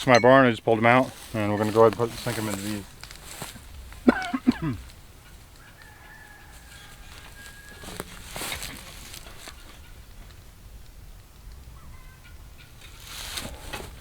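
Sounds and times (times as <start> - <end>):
fowl calling: 0.0 - 10.5, 11.6 - 14.0.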